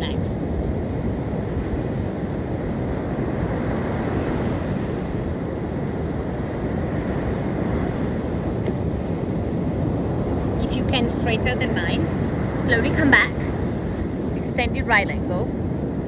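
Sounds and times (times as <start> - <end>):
sea surf breaking: 0.0 - 16.0
wind blowing across microphone: 0.0 - 16.0.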